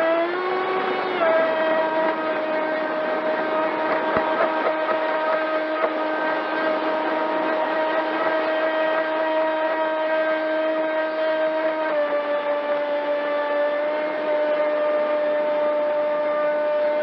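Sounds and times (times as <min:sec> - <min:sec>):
electric motor whining: 0:00.0 - 0:17.0
water rushing along hull: 0:00.0 - 0:17.0.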